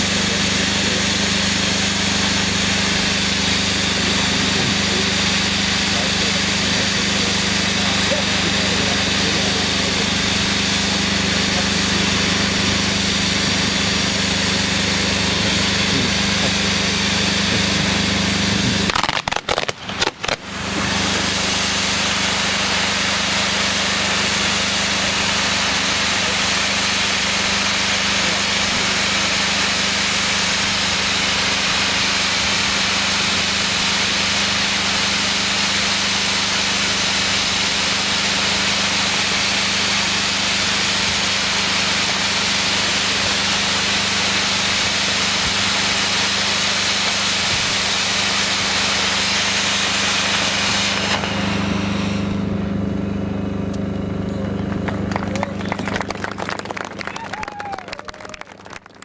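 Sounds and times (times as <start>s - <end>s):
firework fountains hissing: 0.0s - 59.0s.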